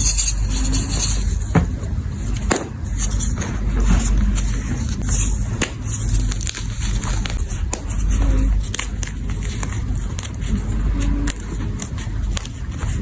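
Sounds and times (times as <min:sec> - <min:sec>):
heavy low rumble: 0:00.0 - 0:13.0.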